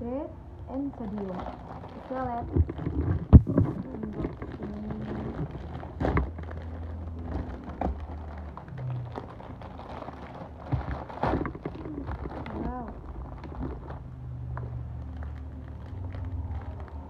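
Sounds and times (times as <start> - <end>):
plastic packet crinkling and tearing: 0.8 - 17.0.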